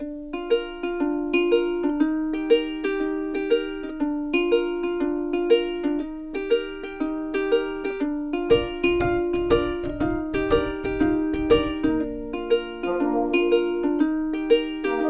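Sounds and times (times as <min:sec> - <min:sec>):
plucked string tune: 0:00.0 - 0:15.0.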